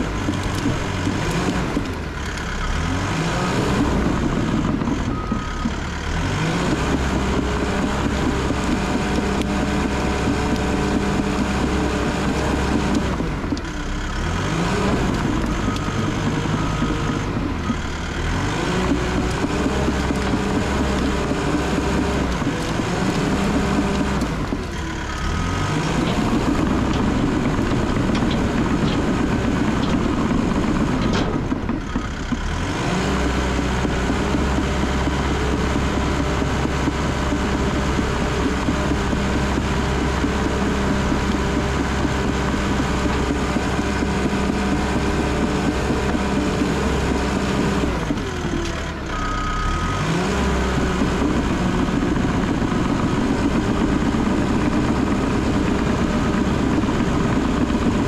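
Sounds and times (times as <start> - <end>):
bulldozer diesel engine under load: 0.0 - 58.0
bulldozer pushing brush and logs: 0.0 - 58.0.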